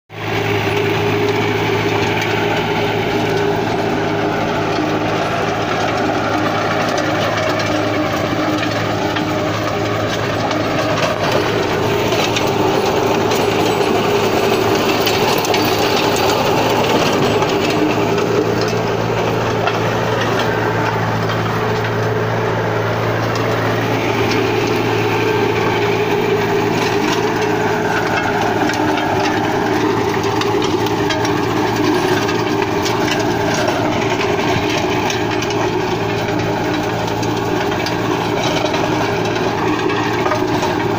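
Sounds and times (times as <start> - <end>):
tiller churning soil: 0.1 - 40.9
tractor engine running under load: 0.1 - 40.9.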